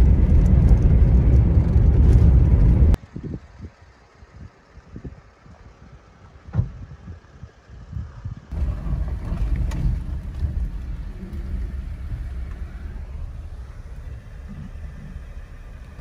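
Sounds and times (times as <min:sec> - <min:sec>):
vehicle driving low rumble: 0:00.0 - 0:16.0
wind buffeting microphone: 0:00.0 - 0:16.0.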